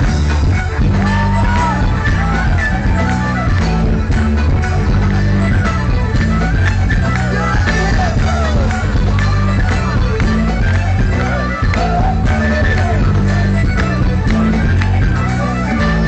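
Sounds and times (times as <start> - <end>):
folk-rock band playing live: 0.0 - 16.0
repeating low bass line: 0.0 - 16.0
sliding melody line: 0.0 - 16.0.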